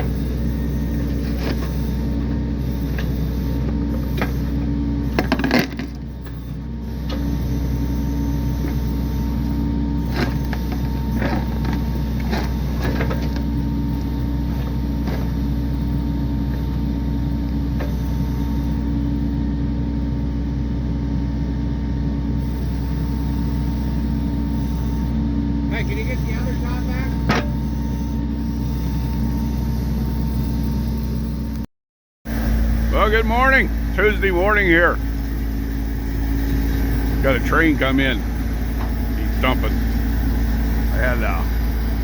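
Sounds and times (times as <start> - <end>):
engine running steadily: 0.0 - 31.7, 32.3 - 42.0.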